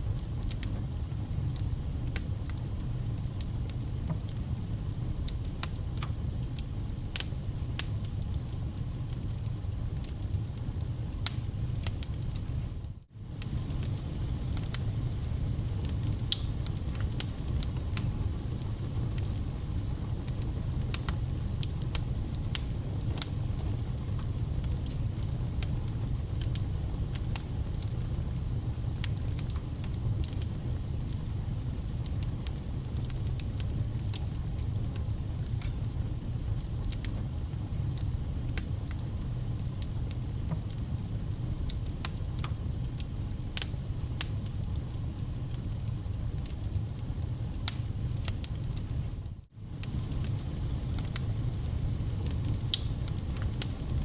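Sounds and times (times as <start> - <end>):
wood fire roaring: 0.0 - 54.0
logs crackling and popping: 0.1 - 49.0, 49.7 - 54.0.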